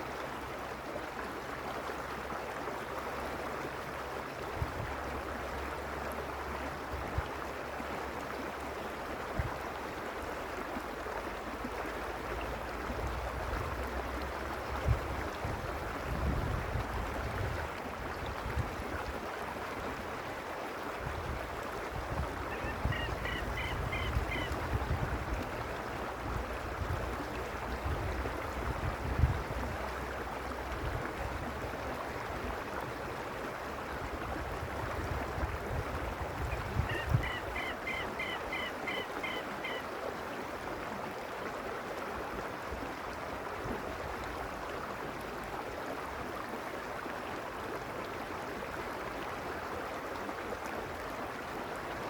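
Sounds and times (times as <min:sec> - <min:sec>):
creek water rushing over stones: 0:00.0 - 0:52.0.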